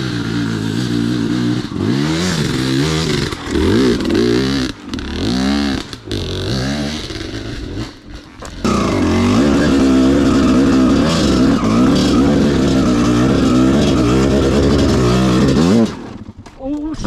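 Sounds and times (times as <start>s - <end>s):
two-stroke dirt bike engine revving: 0.0s - 17.0s.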